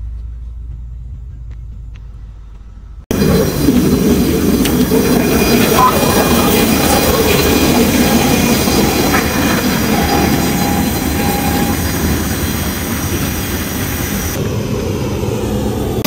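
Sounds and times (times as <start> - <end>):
jet aircraft noise with whine: 0.0 - 16.0
low rumble inside moving bus: 0.0 - 16.0.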